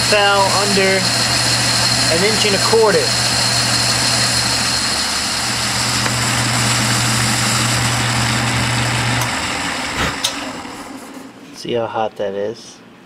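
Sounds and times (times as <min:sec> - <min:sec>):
metal lathe hum: 0:00.0 - 0:11.4.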